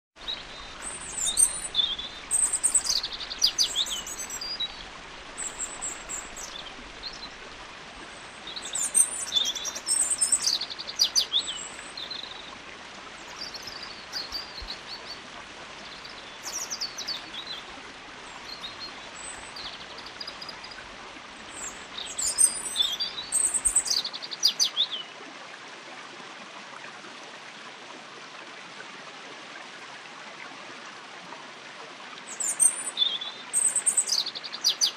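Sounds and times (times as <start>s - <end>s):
stream water rushing: 0.2s - 34.9s.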